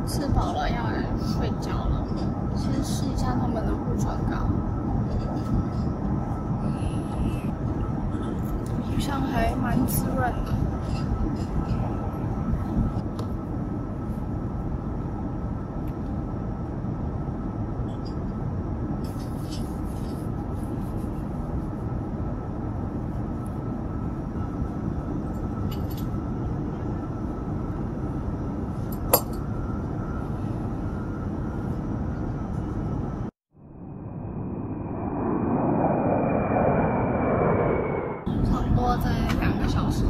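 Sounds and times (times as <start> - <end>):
aircraft cabin rumble: 0.0 - 40.0
faint steady whine: 0.0 - 40.0.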